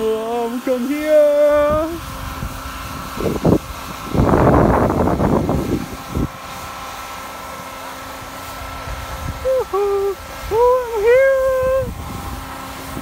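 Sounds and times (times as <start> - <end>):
snow gun fan humming: 0.0 - 13.0.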